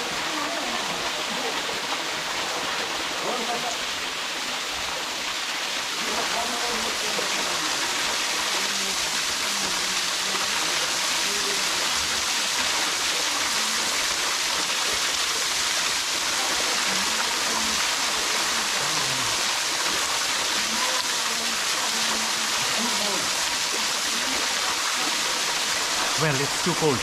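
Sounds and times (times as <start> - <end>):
small waterfall splashing: 0.0 - 27.0.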